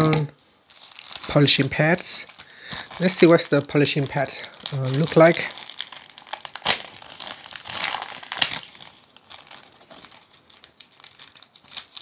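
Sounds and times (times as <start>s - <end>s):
packaging rustling and crackling: 0.7s - 12.0s.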